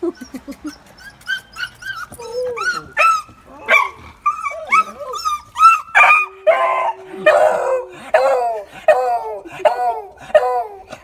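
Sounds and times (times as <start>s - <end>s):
dog yelping and howling: 1.0s - 11.0s.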